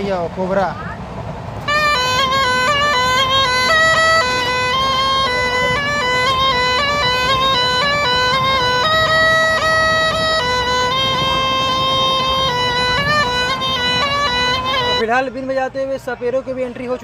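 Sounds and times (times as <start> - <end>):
snake charmer's pipe melody: 1.5 - 15.4.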